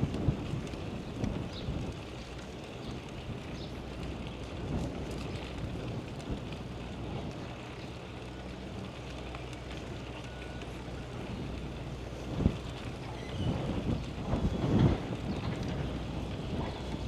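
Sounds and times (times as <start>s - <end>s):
faint motor hum: 0.0s - 17.0s
low rumble of traffic: 0.0s - 17.0s.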